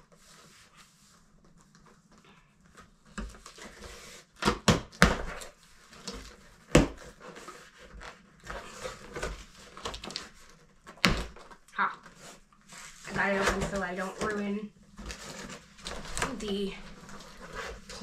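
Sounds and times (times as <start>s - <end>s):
cardboard rustling: 0.0s - 18.0s.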